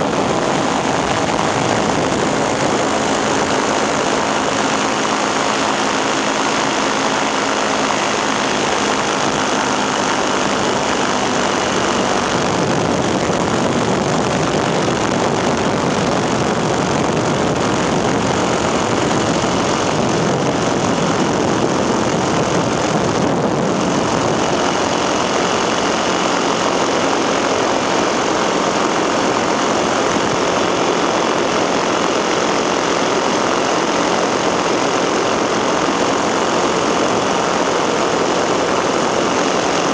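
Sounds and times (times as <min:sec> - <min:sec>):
aircraft engine and propeller drone: 0:00.0 - 0:39.9
rushing air: 0:00.0 - 0:39.9.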